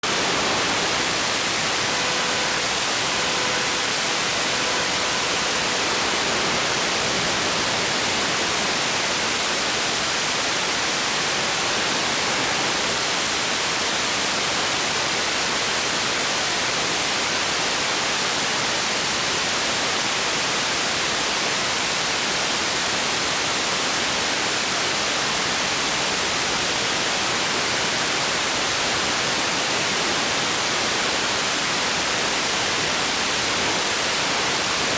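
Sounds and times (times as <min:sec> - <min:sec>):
static hiss: 0:00.0 - 0:34.9.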